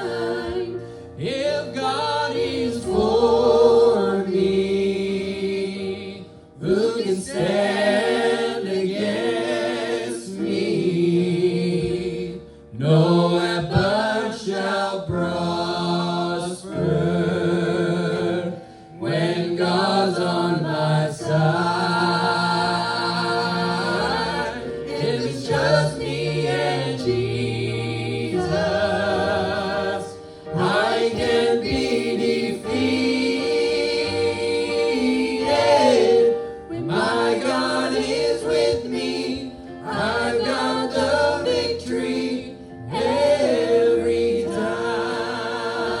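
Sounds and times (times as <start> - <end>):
low musical accompaniment: 0.0 - 46.0
voices singing in harmony: 0.0 - 46.0.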